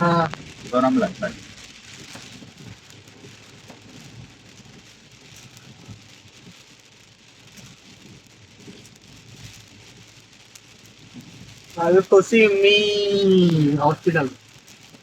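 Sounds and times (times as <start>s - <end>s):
heavy rain on a car: 0.0s - 15.0s.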